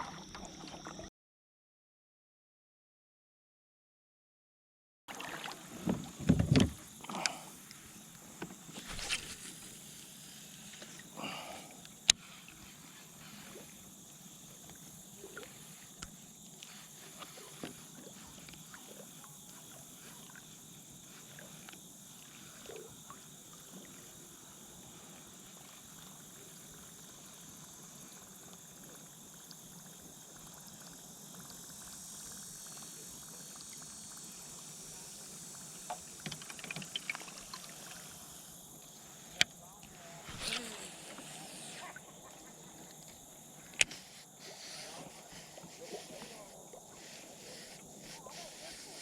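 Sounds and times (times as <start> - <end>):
water lapping around kayak: 5.1 - 49.0.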